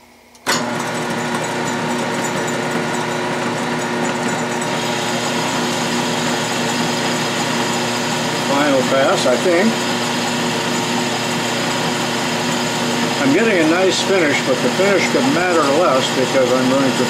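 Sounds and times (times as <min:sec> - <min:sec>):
boring bar cutting metal: 0:00.4 - 0:17.0
metal lathe running: 0:00.5 - 0:17.0.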